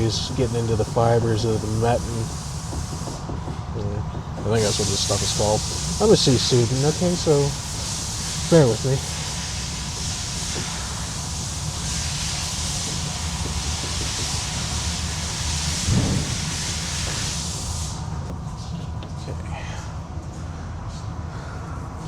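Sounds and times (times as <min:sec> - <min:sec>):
steady hiss: 0:00.0 - 0:18.6.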